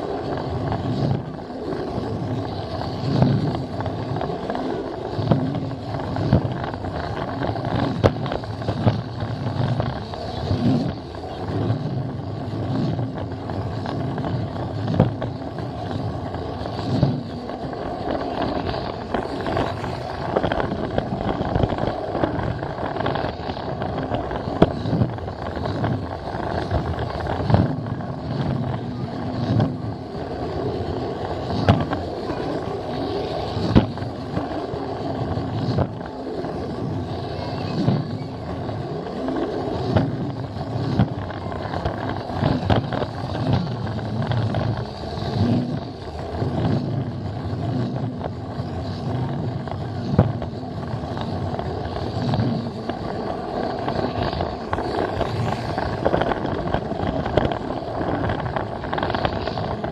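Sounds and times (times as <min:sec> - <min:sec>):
toy train motor humming: 0:00.0 - 0:59.9
wheels clicking over track joints: 0:00.0 - 0:59.9.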